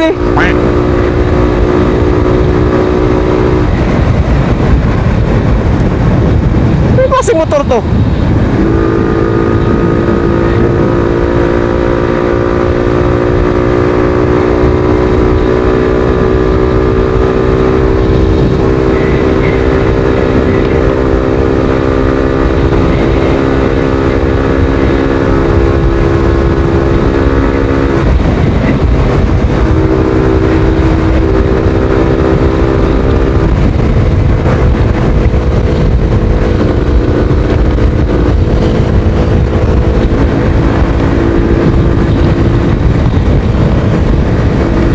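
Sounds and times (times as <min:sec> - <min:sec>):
motorcycle engine running: 0:00.0 - 0:44.9
wind rumble on microphone: 0:00.0 - 0:44.9.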